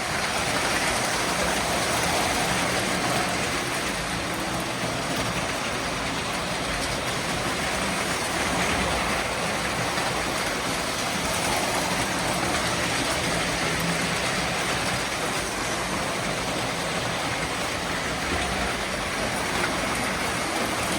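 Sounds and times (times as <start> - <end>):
train rolling noise: 0.0 - 20.9.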